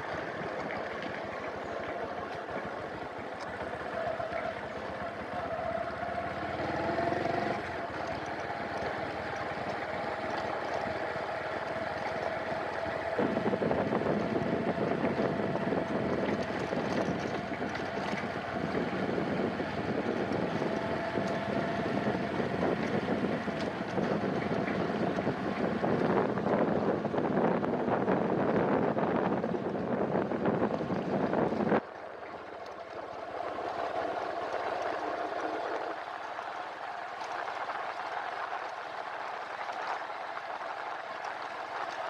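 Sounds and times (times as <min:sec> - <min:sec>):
motorcycle engine running: 0:00.0 - 0:36.6
wind rushing over microphone: 0:00.0 - 0:42.0.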